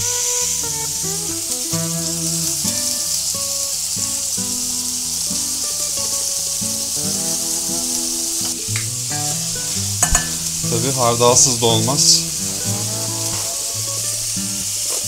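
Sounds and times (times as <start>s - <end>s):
background music: 0.0s - 15.0s
patties sizzling in a frying pan: 0.0s - 15.0s.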